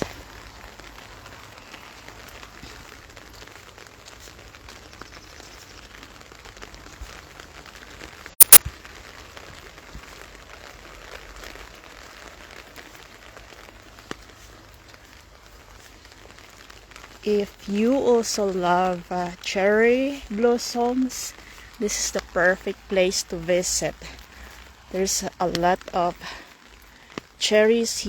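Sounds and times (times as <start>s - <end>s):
light rain pattering: 0.0s - 28.0s.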